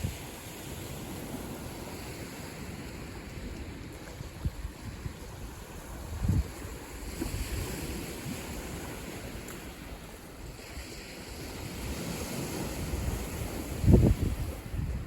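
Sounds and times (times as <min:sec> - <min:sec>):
waves washing onto shore: 0:00.0 - 0:15.0
wind buffeting microphone: 0:00.0 - 0:15.0.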